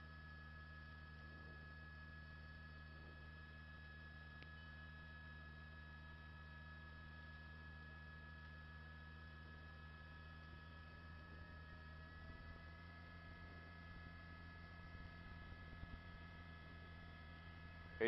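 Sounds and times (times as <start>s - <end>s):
faint electrical hum: 0.0s - 18.0s.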